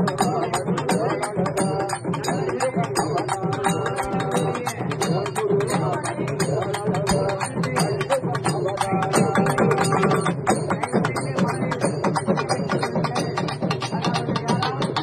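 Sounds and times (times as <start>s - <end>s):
drums with pitch-bending notes: 0.0s - 15.0s
rapid drum strokes: 0.0s - 15.0s.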